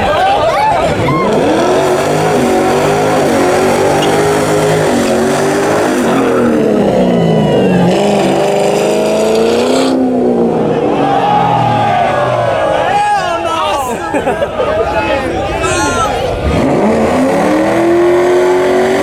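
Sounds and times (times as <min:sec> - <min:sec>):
vehicle engines revving: 0:00.0 - 0:19.0.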